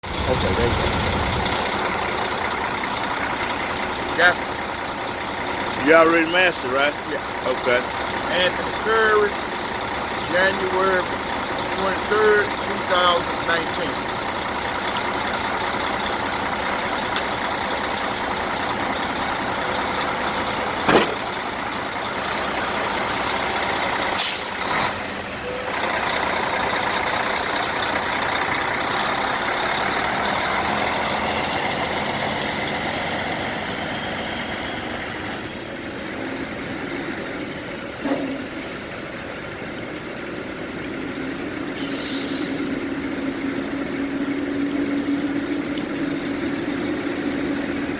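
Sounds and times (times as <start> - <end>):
truck engine running: 0.0 - 47.9.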